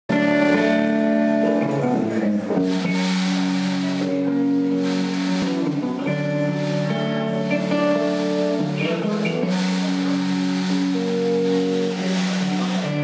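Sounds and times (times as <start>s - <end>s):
band playing held chords: 0.1s - 13.0s
guitar: 0.1s - 13.0s
hissy washes: 2.5s - 13.0s.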